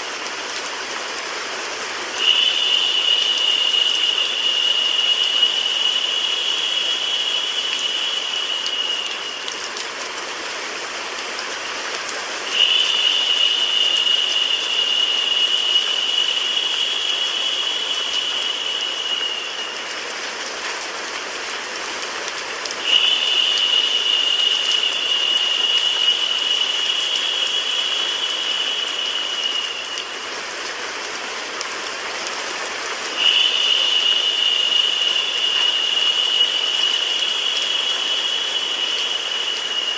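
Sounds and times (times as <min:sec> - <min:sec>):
rain hiss: 0:00.0 - 0:39.9
white noise: 0:00.0 - 0:39.9
high narrow hiss: 0:01.1 - 0:20.5, 0:22.6 - 0:39.9.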